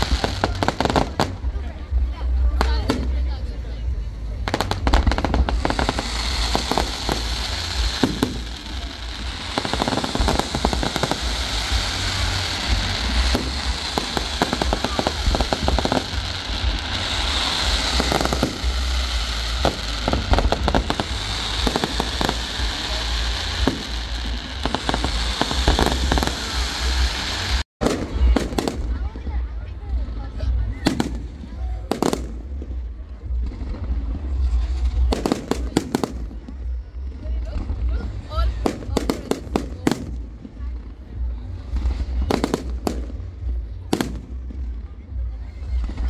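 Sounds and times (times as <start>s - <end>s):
fireworks crackling and banging: 0.0s - 46.0s.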